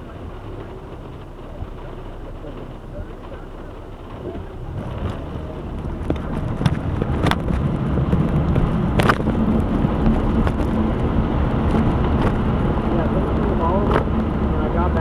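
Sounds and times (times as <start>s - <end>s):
hum: 0.0s - 15.0s
vehicle engine rumble: 0.0s - 15.0s.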